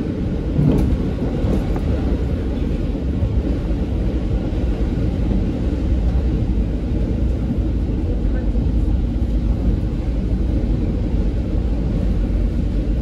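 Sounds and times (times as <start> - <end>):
diesel railcar rumble: 0.0 - 13.0.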